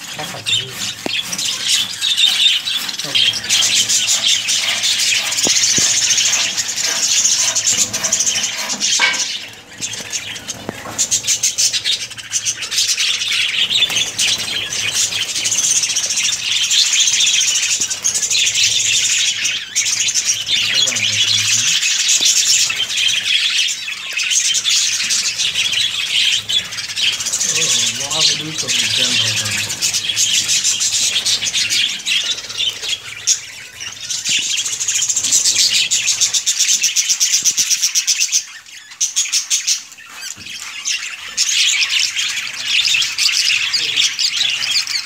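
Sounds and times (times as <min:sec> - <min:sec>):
budgerigars chattering: 0:00.0 - 0:45.0.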